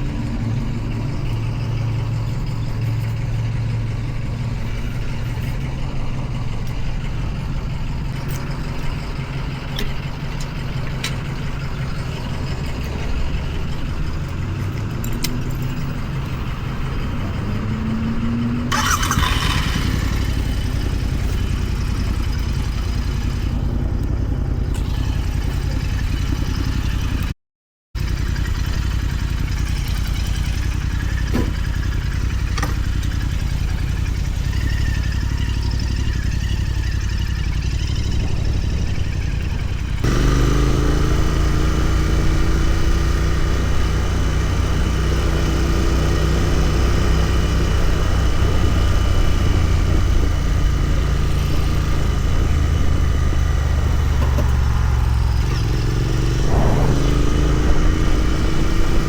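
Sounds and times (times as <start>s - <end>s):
motorcycle engine running: 0.0s - 27.3s, 28.0s - 59.0s.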